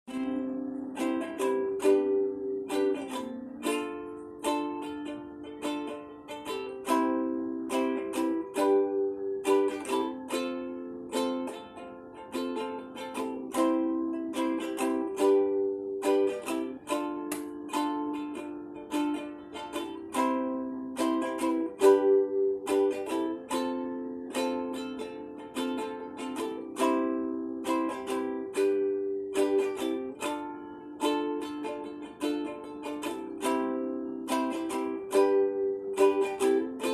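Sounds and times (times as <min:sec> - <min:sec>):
plucked string instrument strumming: 0:00.0 - 0:36.9.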